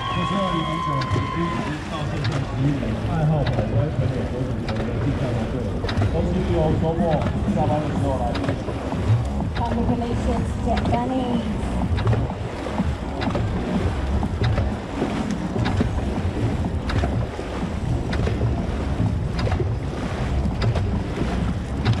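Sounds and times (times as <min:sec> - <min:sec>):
paddle strokes: 0:00.0 - 0:22.0
water wash: 0:00.0 - 0:22.0
wind buffeting microphone: 0:00.0 - 0:22.0.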